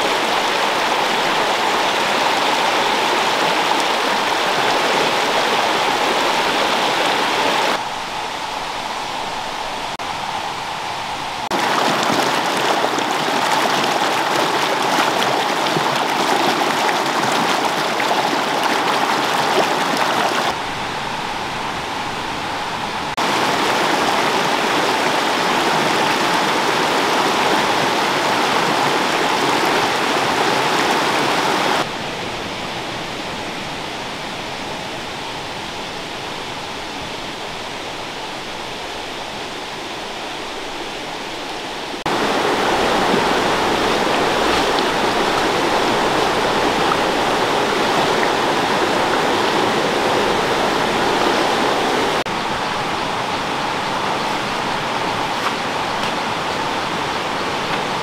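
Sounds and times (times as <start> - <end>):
stream tumbling over stones: 0.0 - 20.8, 23.2 - 31.9, 39.4 - 58.0.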